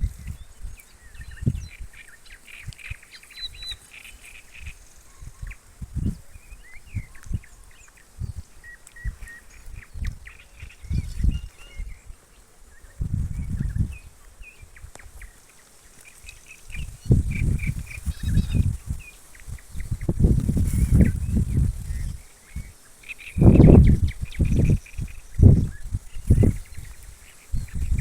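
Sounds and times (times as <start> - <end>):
faint outdoor hiss: 0.0 - 28.0
songbirds chirping: 0.0 - 28.0.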